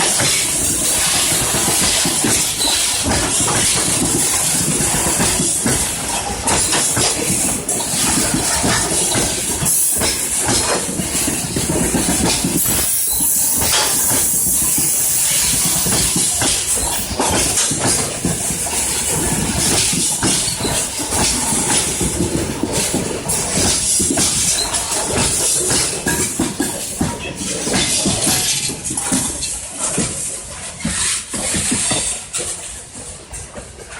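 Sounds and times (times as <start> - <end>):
freight train rumbling: 0.0 - 33.9
wheels clattering over rail joints: 0.0 - 33.9.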